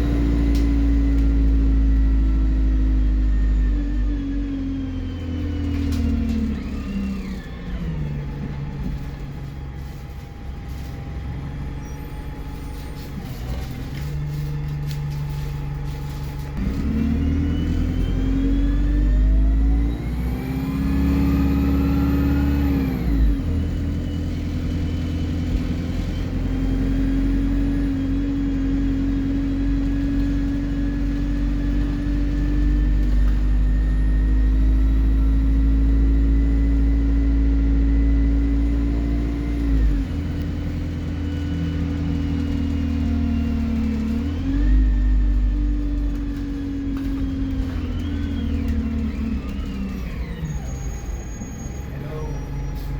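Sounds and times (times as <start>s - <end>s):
bus engine pulling: 0.0s - 52.9s.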